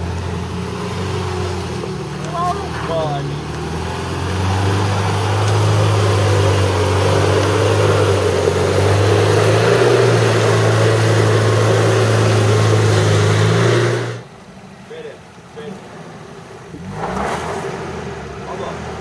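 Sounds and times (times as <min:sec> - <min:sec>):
car engine running at low revs: 0:00.0 - 0:19.0.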